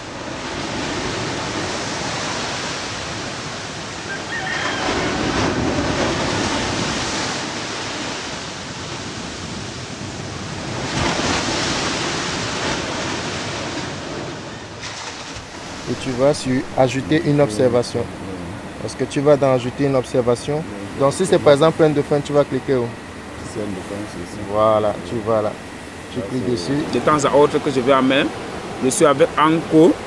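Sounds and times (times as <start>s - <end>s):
surf washing up a beach: 0.0s - 30.0s.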